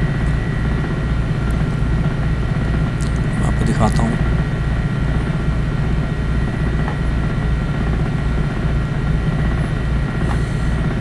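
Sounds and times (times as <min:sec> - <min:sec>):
faint high whine: 0:00.0 - 0:11.0
steady low drone: 0:00.0 - 0:11.0.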